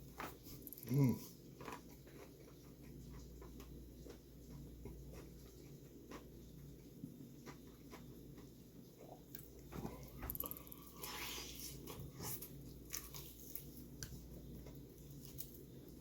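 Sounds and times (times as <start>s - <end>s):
person chewing: 0.1s - 16.0s.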